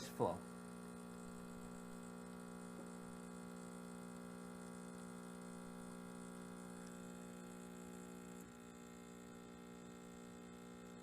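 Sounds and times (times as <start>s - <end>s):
espresso machine pump humming: 0.0s - 11.0s.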